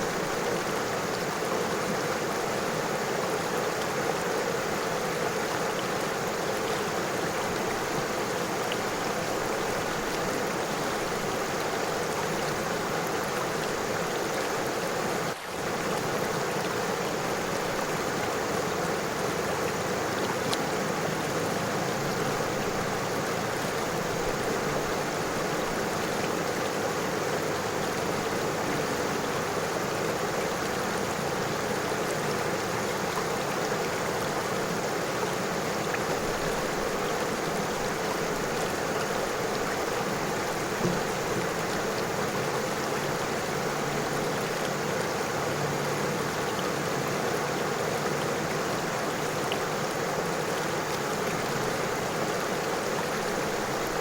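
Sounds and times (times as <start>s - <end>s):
river water flowing over stones: 0.0s - 54.0s.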